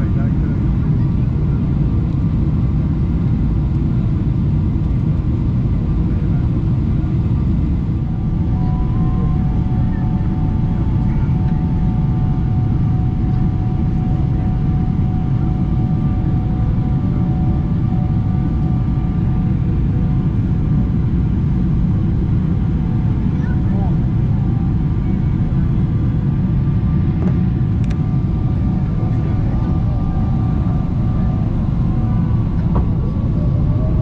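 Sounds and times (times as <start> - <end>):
airplane cabin rumble: 0.0 - 34.0
faint steady whine: 0.0 - 34.0.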